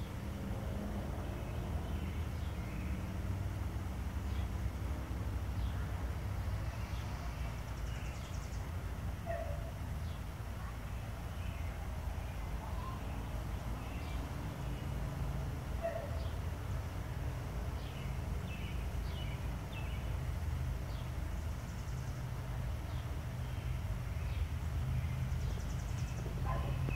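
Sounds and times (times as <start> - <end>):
small birds chirping: 1.2 - 26.9.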